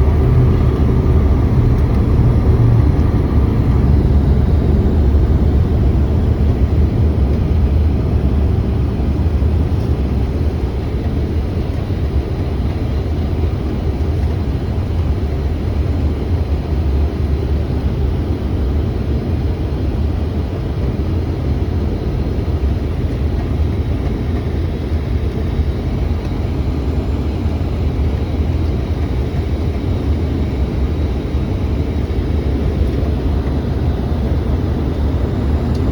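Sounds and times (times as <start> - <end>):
jet cabin engine rumble: 0.0 - 35.9.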